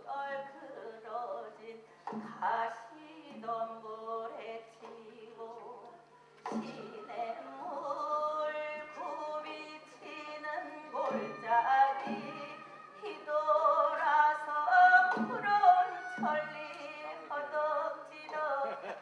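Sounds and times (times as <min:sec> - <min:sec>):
person singing with sliding notes: 0:00.0 - 0:19.0.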